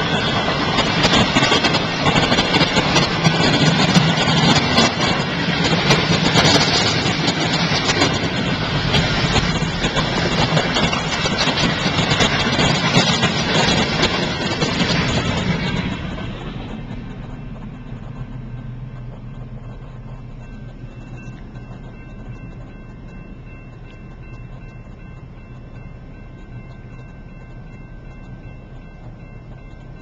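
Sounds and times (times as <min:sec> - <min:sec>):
crossing warning bell ringing: 0:00.0 - 0:30.0
freight train rumble: 0:00.0 - 0:30.0.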